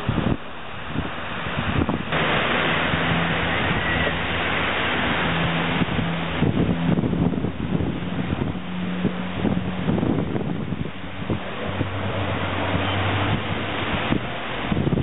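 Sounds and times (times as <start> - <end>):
surf washing on beach: 0.0 - 15.0
wind on microphone: 0.0 - 15.0
propeller aircraft flying over: 1.7 - 15.0.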